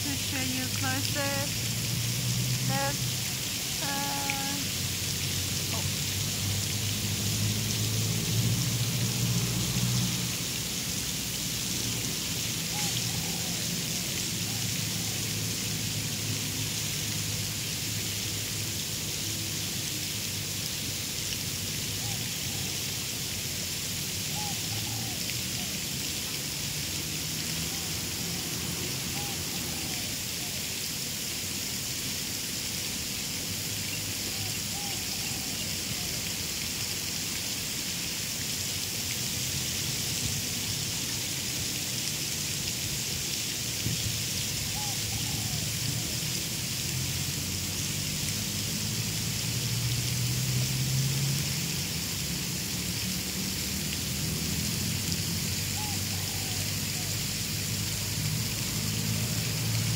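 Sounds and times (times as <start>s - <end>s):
constant hiss: 0.0s - 59.9s.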